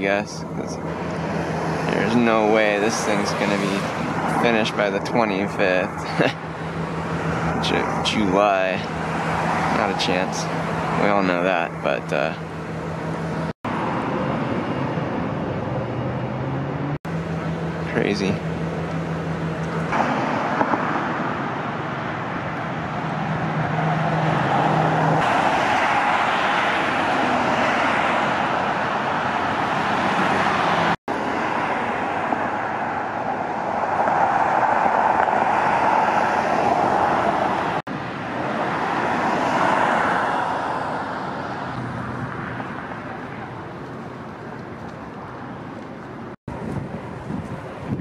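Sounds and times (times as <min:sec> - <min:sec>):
cars passing on street: 0:00.0 - 0:48.0.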